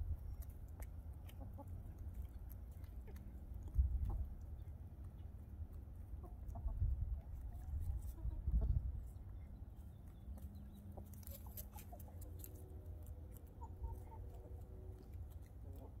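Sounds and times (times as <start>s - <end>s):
hens clucking: 0.4s - 16.0s.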